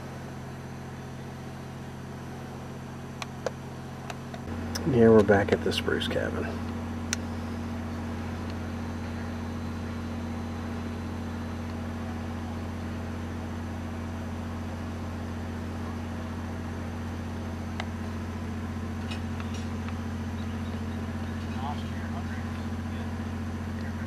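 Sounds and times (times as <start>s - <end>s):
small motor humming: 0.0s - 24.0s.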